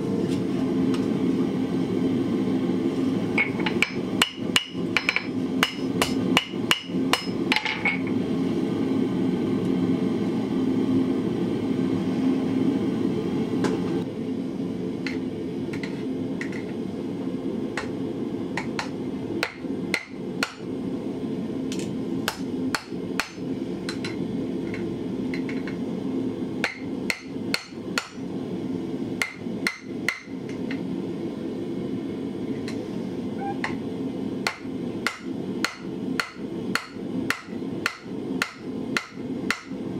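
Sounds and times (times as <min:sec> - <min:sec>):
gas forge rushing: 0:00.0 - 0:39.9.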